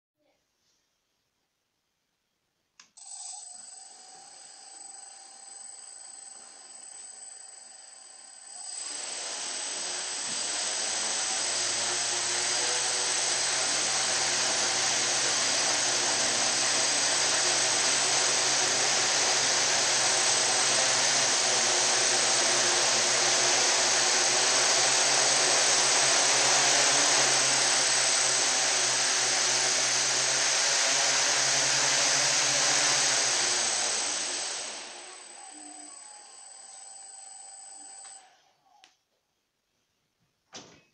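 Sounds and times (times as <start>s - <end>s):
quadcopter motors whirring: 3.0s - 38.8s.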